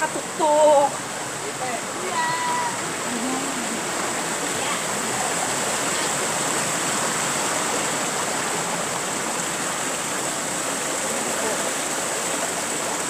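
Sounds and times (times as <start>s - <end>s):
mountain stream over boulders: 0.0s - 13.0s.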